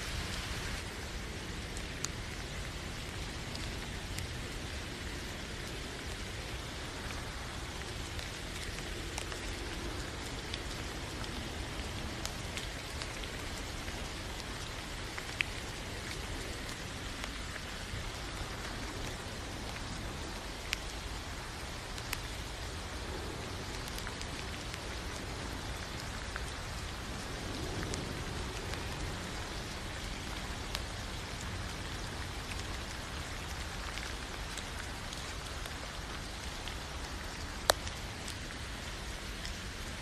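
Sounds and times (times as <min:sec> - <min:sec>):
raindrops ticking: 0:00.0 - 0:40.0
steady rain hiss: 0:00.0 - 0:40.0.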